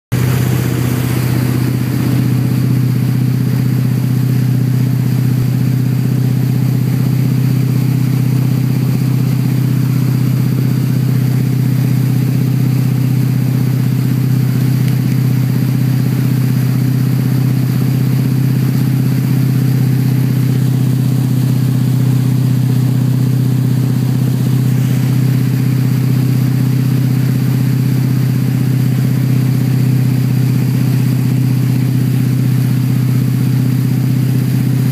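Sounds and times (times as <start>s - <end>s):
boat engine running: 0.1s - 34.9s
churning wake hiss: 0.2s - 34.9s.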